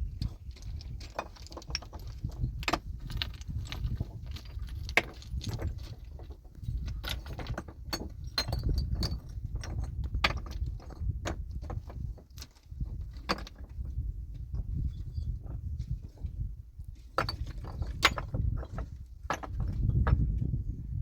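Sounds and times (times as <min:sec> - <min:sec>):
stones knocking together: 0:00.2 - 0:13.9, 0:17.1 - 0:20.3.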